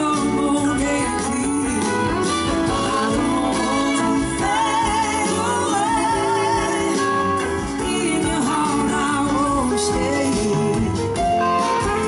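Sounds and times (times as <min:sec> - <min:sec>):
blues-rock band playing: 0:00.0 - 0:12.0
man singing lead vocal: 0:00.0 - 0:12.0.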